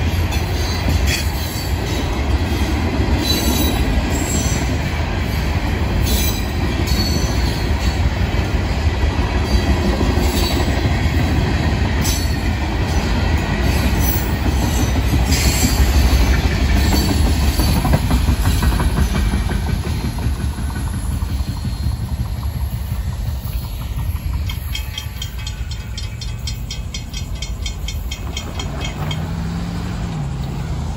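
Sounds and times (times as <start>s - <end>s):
clickety-clack: 0.0s - 5.0s, 6.0s - 30.2s
train wheels rumbling on rail: 0.0s - 30.9s.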